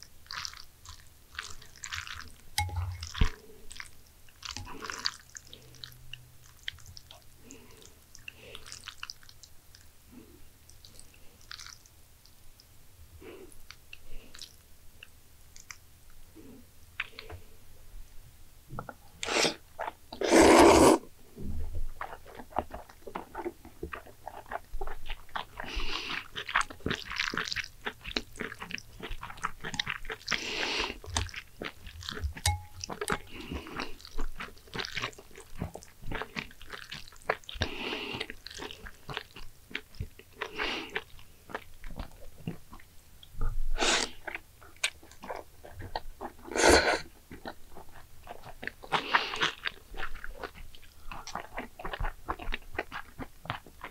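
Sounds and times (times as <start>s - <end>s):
person chewing: 0.0s - 11.9s, 18.8s - 21.0s, 22.0s - 53.9s.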